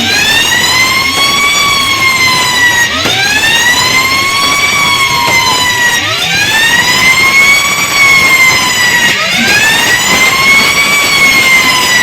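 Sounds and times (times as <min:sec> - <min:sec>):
wailing siren: 0:00.0 - 0:12.0.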